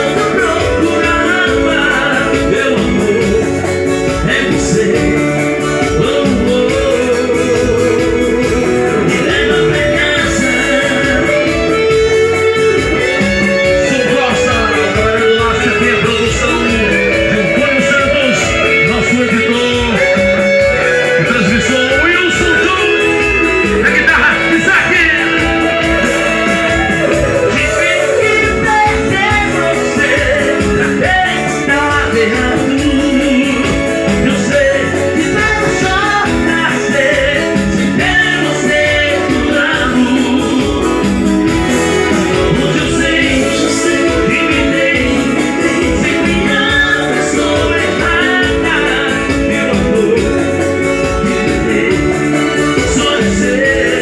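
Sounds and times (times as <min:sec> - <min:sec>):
electric guitar: 0:00.0 - 0:54.0
keyboard playing: 0:00.0 - 0:54.0
steady drum beat: 0:00.0 - 0:54.0.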